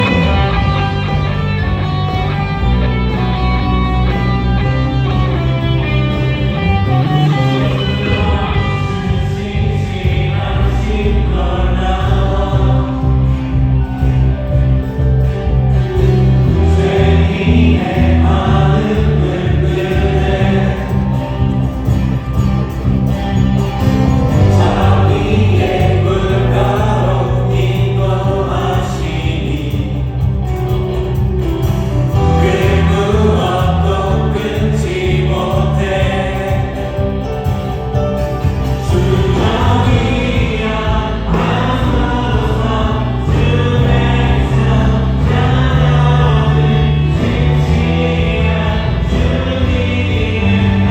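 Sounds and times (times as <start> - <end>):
group of voices singing: 0.0 - 50.9
live band playing praise song: 0.0 - 50.9.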